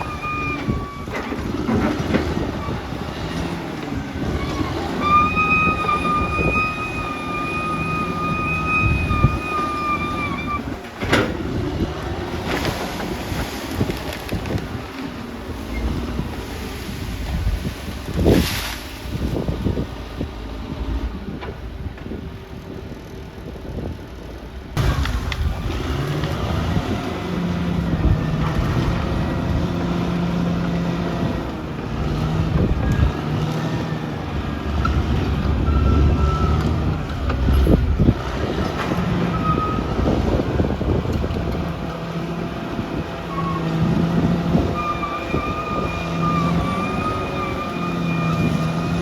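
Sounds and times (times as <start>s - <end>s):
bulldozer diesel engine working: 0.0s - 49.0s.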